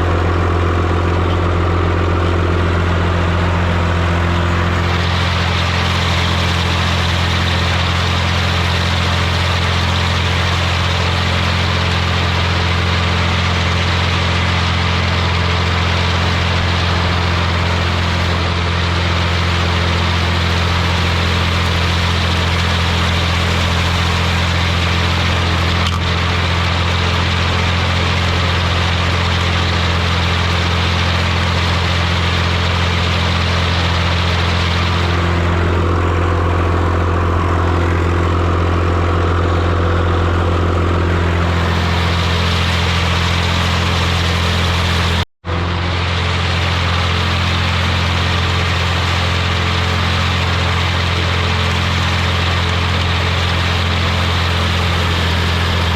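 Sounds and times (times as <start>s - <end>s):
rush of mechanical noise: 0.0s - 55.9s
tractor diesel engine running: 0.0s - 55.9s.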